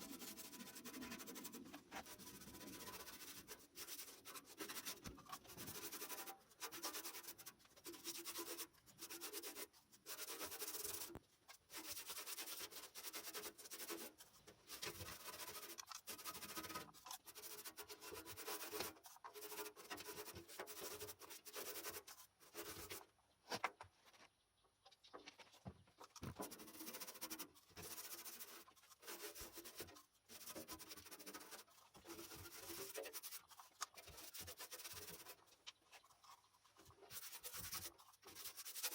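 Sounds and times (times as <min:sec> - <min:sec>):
scrubbing with hand abrasive: 0:00.0 - 0:23.0, 0:26.1 - 0:38.9.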